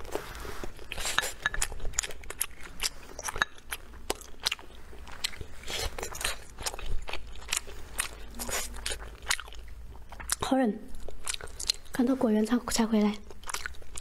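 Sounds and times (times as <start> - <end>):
person chewing sticky food: 0.0 - 12.0, 13.2 - 14.0.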